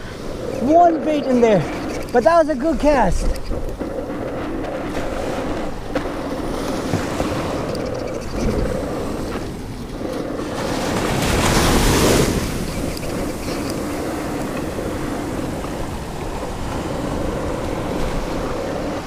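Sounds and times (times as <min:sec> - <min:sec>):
ocean surf on a beach: 0:00.0 - 0:19.0
wind rumble on microphone: 0:00.0 - 0:19.0.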